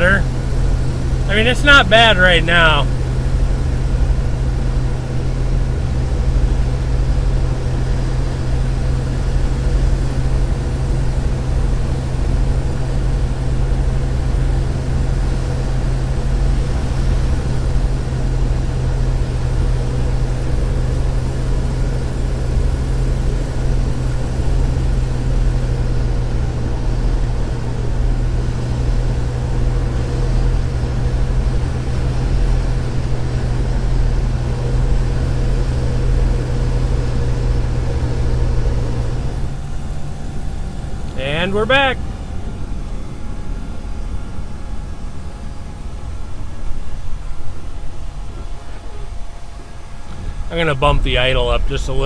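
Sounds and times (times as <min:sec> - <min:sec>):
car engine idling: 0:00.0 - 0:46.6.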